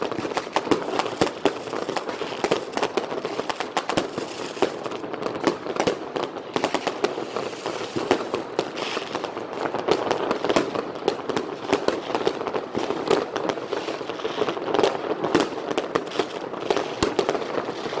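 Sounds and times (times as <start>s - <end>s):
firecrackers crackling: 0.0s - 18.0s
fireworks bangs: 0.0s - 18.0s.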